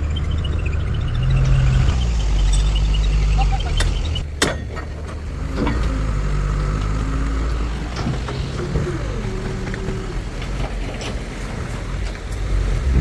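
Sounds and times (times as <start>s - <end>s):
dumper truck engine humming: 0.0s - 13.0s.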